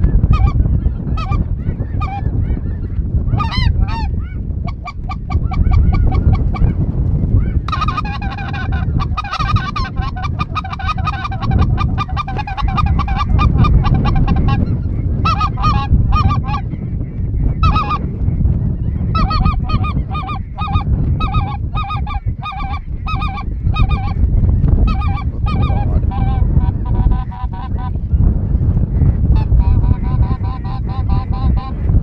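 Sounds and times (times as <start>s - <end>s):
steady low rumble: 0.0s - 32.0s
geese honking: 0.2s - 6.8s, 7.4s - 18.2s, 18.8s - 28.0s, 29.4s - 31.8s.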